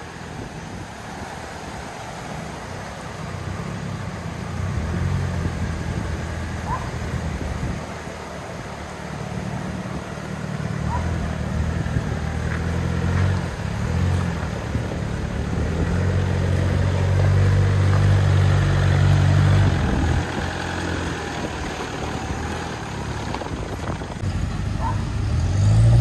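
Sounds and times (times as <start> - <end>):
truck engine pulling uphill: 0.0 - 26.0.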